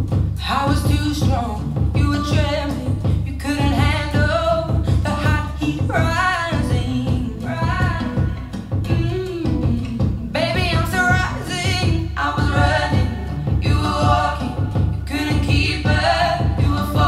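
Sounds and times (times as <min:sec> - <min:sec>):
heavy pulsing bass beat: 0:00.0 - 0:17.0
sung lead vocal: 0:00.4 - 0:17.0.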